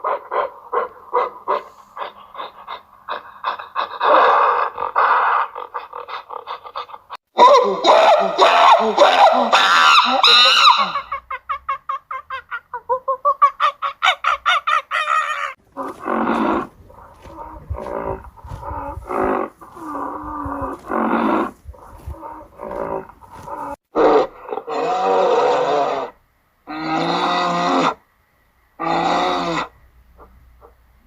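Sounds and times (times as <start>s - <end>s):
animal calls: 0.0s - 28.0s, 28.8s - 30.8s.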